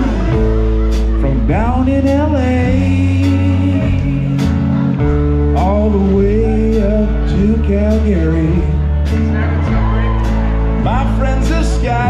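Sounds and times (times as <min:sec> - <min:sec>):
guitar: 0:00.0 - 0:12.0
person singing: 0:00.0 - 0:12.0
sustained bass notes: 0:00.0 - 0:12.0.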